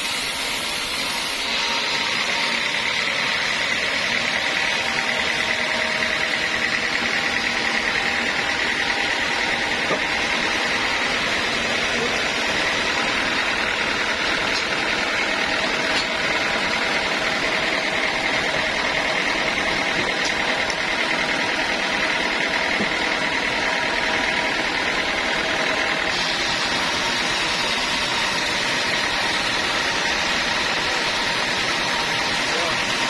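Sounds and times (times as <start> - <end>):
high machine whine: 0.0 - 33.0
sawmill machinery running: 0.0 - 33.0.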